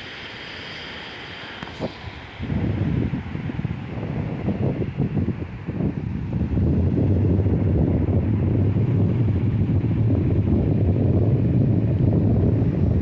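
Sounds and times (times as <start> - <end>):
sea surf: 0.0 - 13.0
wind buffeting microphone: 1.6 - 13.0.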